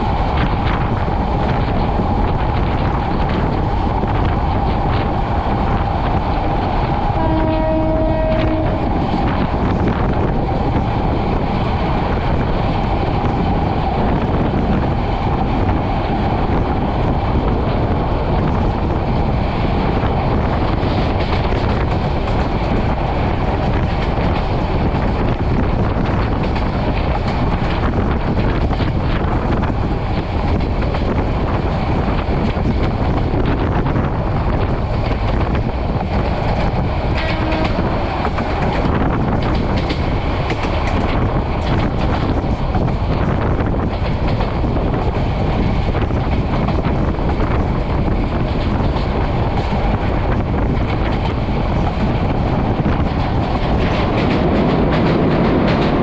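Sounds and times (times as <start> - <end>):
clickety-clack of rail joints: 0.0 - 56.0
train wheels rumbling on rail: 0.0 - 56.0.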